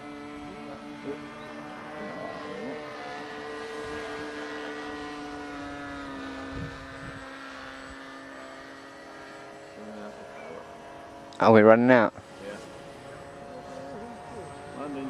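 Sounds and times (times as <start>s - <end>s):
model airplane engine: 0.0s - 15.0s.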